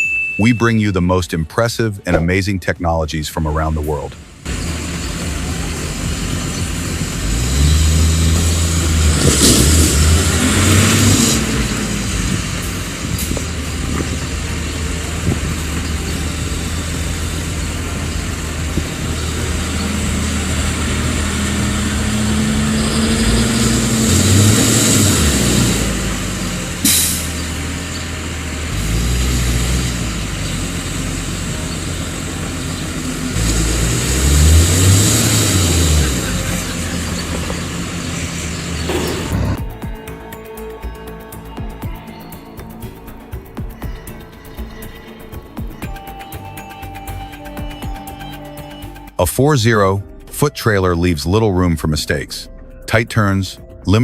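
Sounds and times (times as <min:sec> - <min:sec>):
diesel tractor engines revving: 0:00.4 - 0:54.0.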